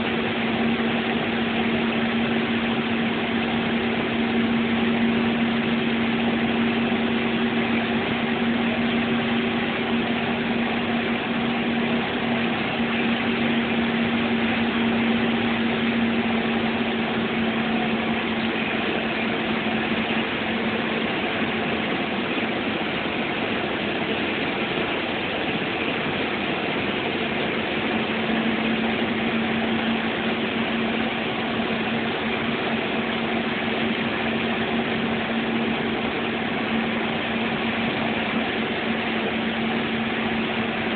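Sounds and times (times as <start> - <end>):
bus engine hum: 0.0 - 40.9.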